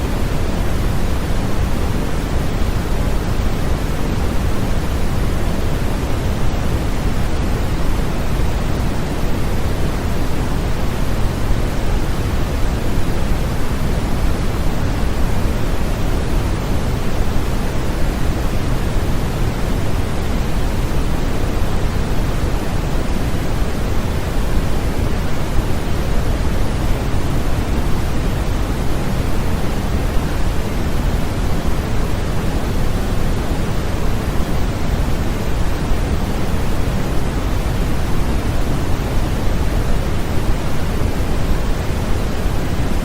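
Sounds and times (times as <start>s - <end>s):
white noise hiss: 0.0s - 43.0s.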